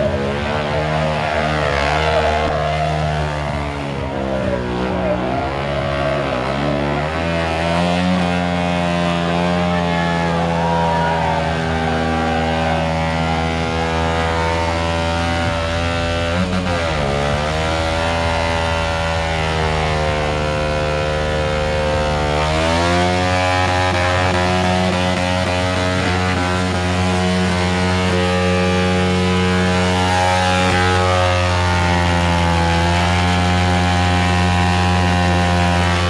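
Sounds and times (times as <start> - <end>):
motorcycle engine revving high: 0.0 - 36.0.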